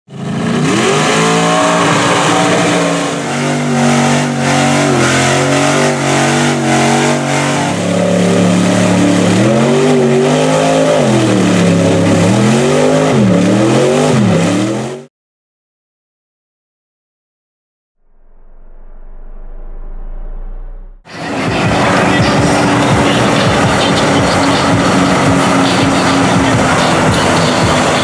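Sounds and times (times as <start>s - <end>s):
truck engine revving hard: 0.1s - 15.1s, 19.3s - 28.0s.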